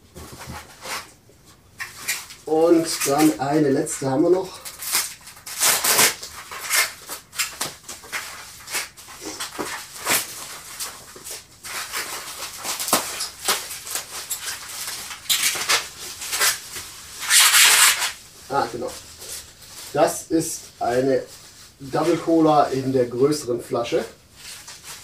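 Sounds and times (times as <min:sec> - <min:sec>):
bubble wrap rustling and squeaking: 0:00.0 - 0:25.0.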